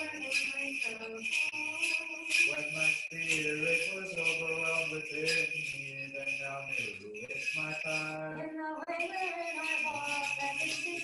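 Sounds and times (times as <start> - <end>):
censer bells jingling: 0.0 - 11.0
person chanting: 0.0 - 11.0.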